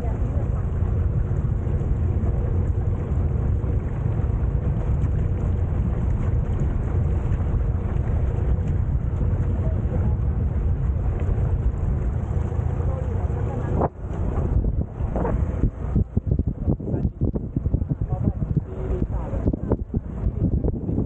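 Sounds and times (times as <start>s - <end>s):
boat engine running: 0.0s - 21.0s
water noise: 0.0s - 21.0s
wind buffeting microphone: 0.0s - 21.0s.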